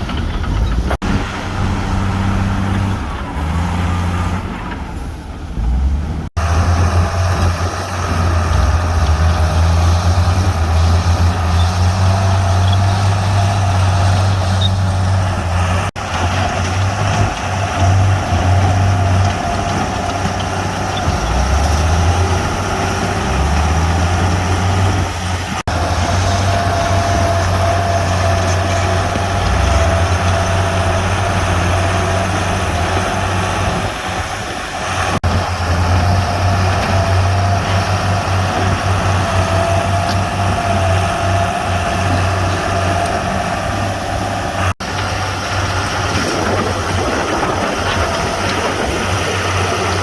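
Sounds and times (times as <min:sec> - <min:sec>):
heavy diesel engines droning: 0:00.0 - 0:50.0.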